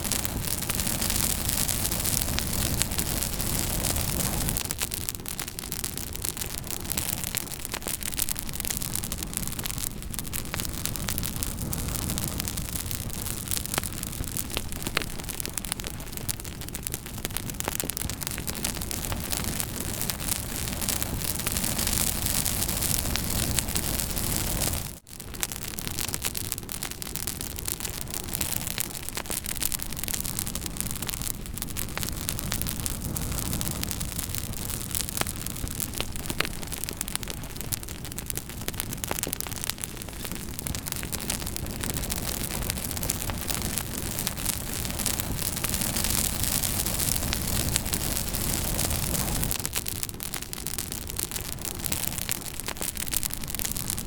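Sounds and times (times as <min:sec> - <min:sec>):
campfire crackling and hissing: 0:00.0 - 0:54.0.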